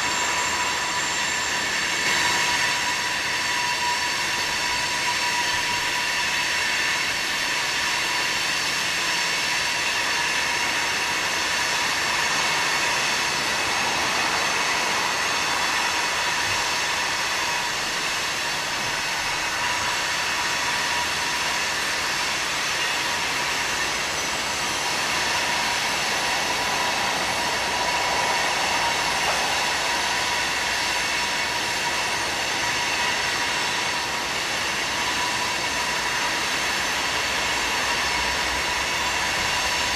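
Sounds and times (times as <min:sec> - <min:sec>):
rolling train wheels: 0:00.0 - 0:39.9
wheel flange squeal: 0:00.0 - 0:39.9.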